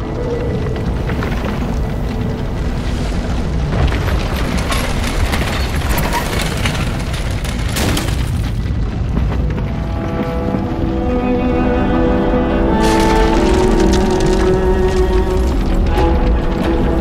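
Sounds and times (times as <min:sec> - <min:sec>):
crackles: 0:00.0 - 0:10.6, 0:12.8 - 0:17.0.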